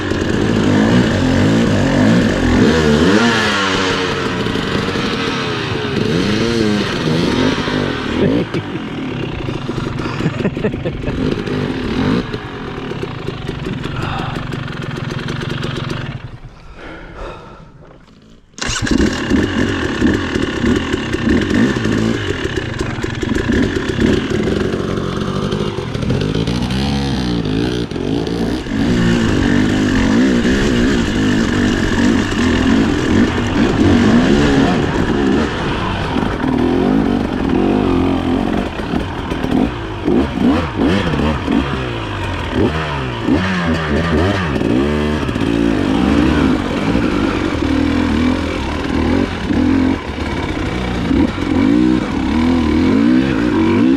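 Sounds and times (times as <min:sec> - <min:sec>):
dirt bike engine revving: 0:00.0 - 0:16.6, 0:18.4 - 0:53.9.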